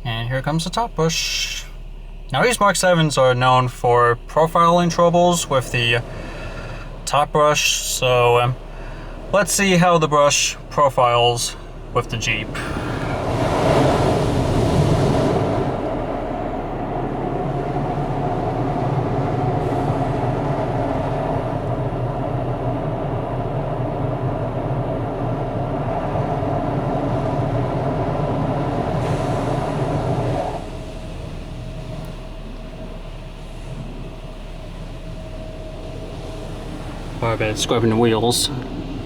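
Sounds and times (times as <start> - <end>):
car wash brush scrubbing vehicle: 0.0 - 39.0.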